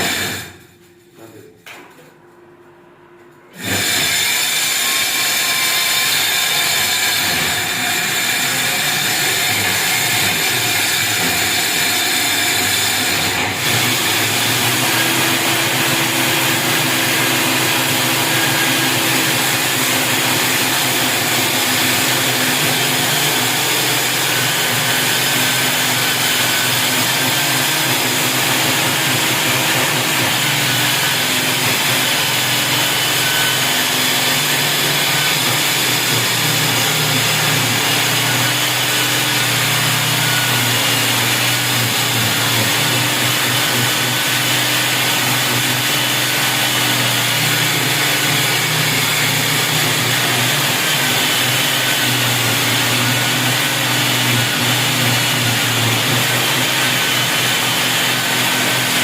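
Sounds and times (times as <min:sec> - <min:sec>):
power tool running: 0:00.0 - 0:02.1, 0:03.4 - 0:59.0.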